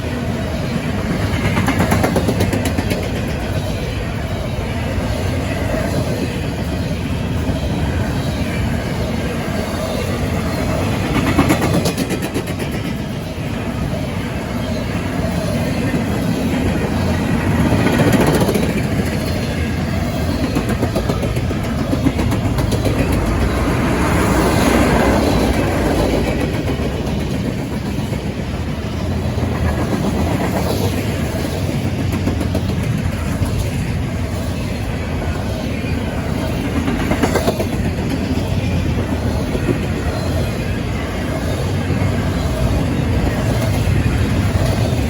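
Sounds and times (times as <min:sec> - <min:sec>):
freight train cars rolling past: 0:00.0 - 0:45.0
wheels clicking over rail joints: 0:00.3 - 0:45.0.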